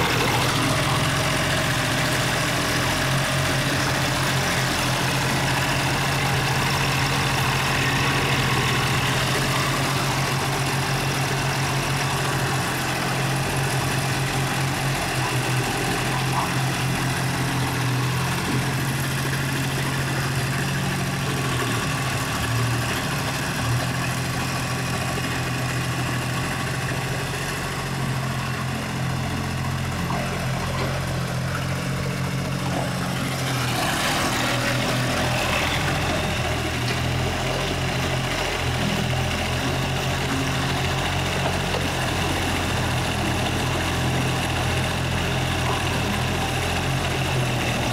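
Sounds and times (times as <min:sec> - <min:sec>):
small diesel engine running: 0:00.0 - 0:47.9.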